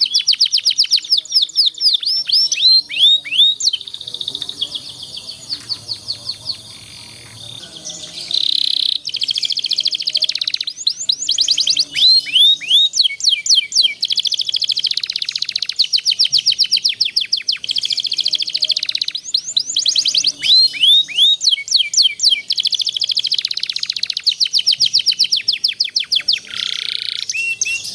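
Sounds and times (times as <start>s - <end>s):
canary singing trills: 0.0s - 27.9s.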